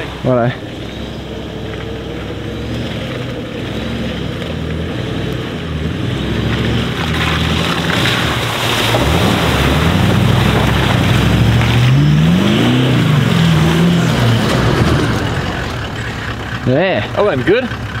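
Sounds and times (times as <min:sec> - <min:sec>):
vehicle engine under load: 0:00.0 - 0:18.0.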